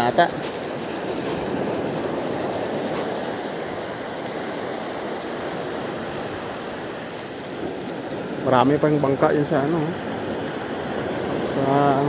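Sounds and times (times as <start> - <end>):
waves washing over pebbles: 0.0 - 12.0.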